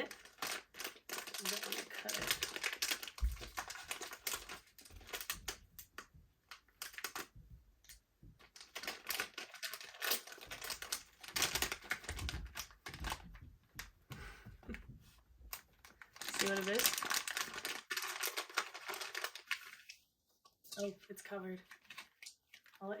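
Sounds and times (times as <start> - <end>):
plastic packaging crinkling: 0.0 - 7.4, 8.4 - 13.9, 15.5 - 20.1, 20.7 - 23.0.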